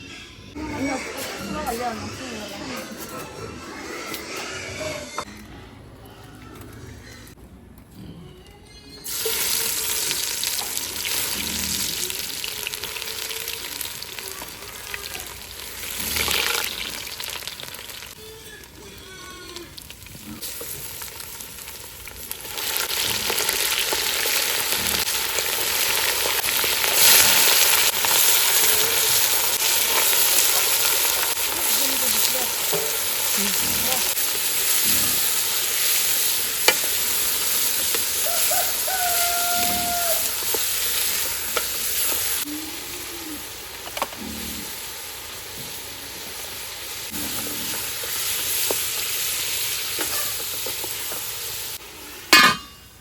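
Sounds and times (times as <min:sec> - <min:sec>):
meat sizzling in a pan: 0:09.1 - 0:18.3, 0:18.9 - 0:52.3.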